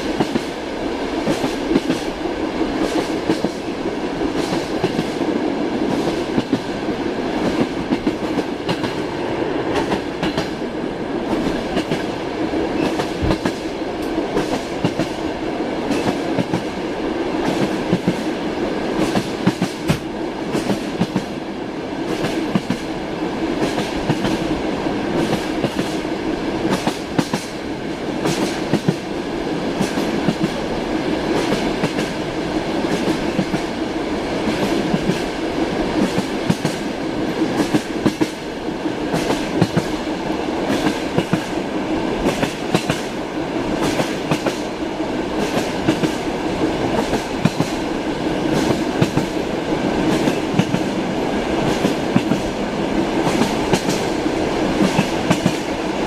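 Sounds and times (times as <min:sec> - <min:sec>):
train wheels knocking on rail joints: 0:00.0 - 0:00.6, 0:01.2 - 0:02.2, 0:02.8 - 0:09.1, 0:09.7 - 0:10.6, 0:11.3 - 0:12.1, 0:12.7 - 0:15.2, 0:15.8 - 0:16.8, 0:17.4 - 0:21.4, 0:22.0 - 0:22.9, 0:23.6 - 0:24.5, 0:25.1 - 0:27.6, 0:28.2 - 0:44.7, 0:45.3 - 0:55.7.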